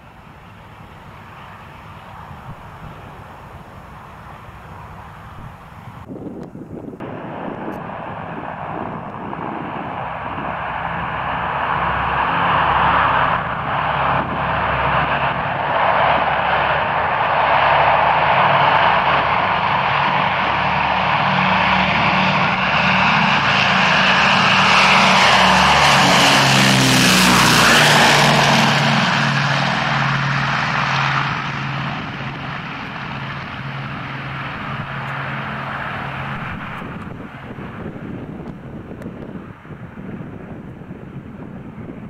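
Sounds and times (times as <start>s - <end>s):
propeller aircraft engines droning: 0.0s - 42.0s.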